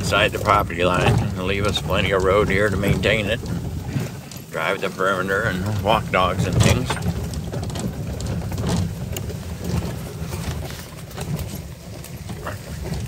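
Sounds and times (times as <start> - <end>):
off-road vehicle rumbling: 0.0 - 13.0.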